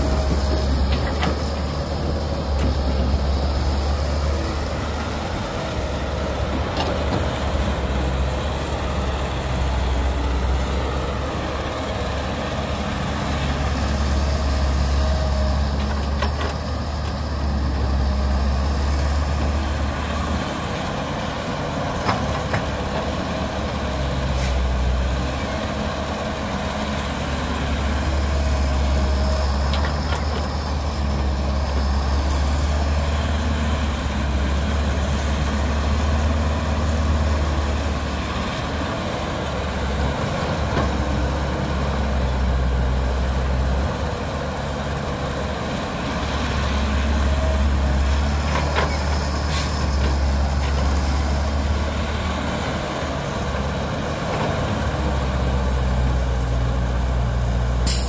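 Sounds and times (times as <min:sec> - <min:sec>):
excavator diesel engine rumble: 0:00.0 - 0:58.0.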